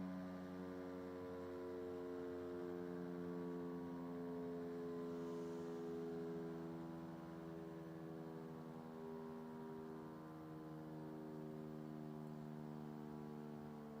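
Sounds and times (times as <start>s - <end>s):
faint siren low steady tone: 0.0s - 14.0s.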